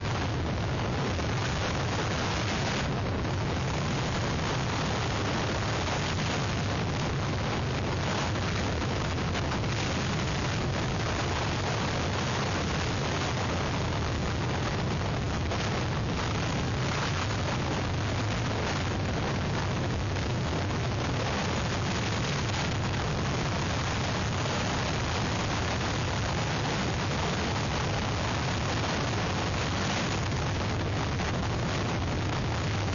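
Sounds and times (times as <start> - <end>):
strong wind on microphone: 0.0 - 32.9.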